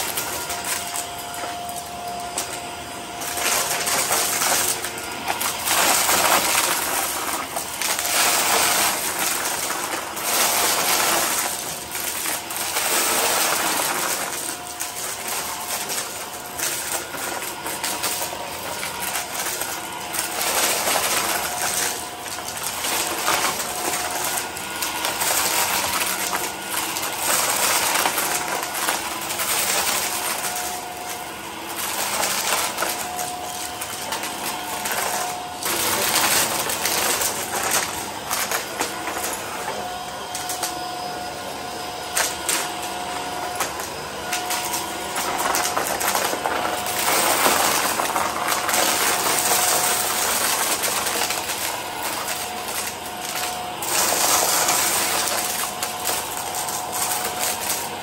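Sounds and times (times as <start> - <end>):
vacuum cleaner motor hum: 0.0 - 58.0
debris crackling into vacuum: 3.2 - 40.8, 42.0 - 58.0.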